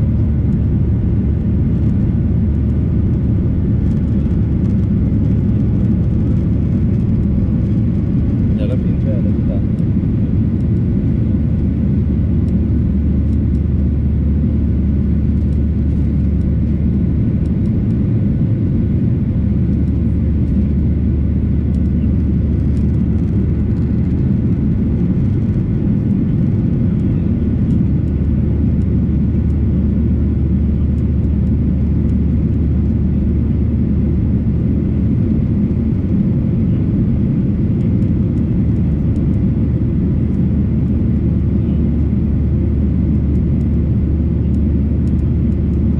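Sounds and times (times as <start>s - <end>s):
jet cabin engine rumble: 0.0s - 45.9s.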